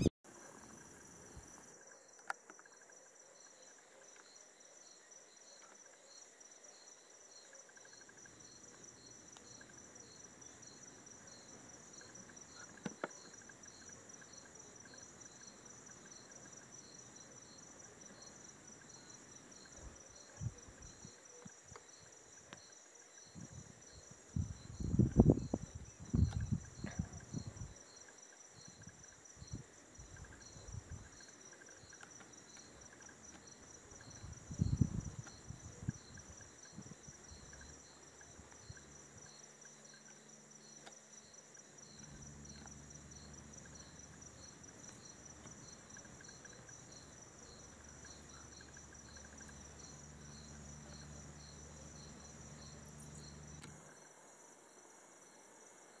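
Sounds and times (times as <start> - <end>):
crickets trilling: 0.0 - 56.0
pulsed cricket chirp: 0.0 - 56.0.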